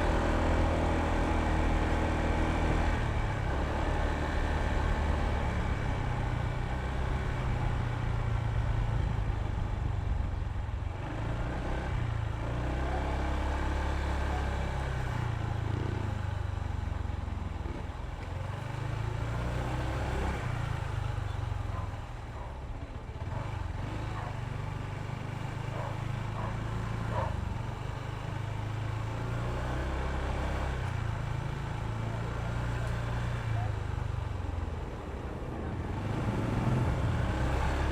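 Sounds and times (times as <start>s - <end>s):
road and wind noise: 0.0s - 37.9s
scooter engine droning: 0.0s - 37.9s.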